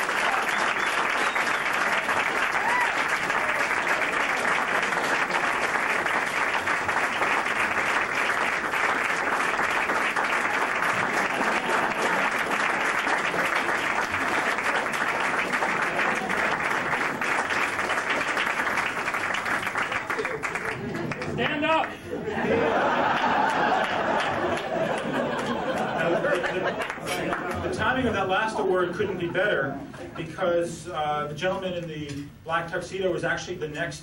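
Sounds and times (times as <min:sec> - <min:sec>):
crowd applauding: 0:00.0 - 0:27.7.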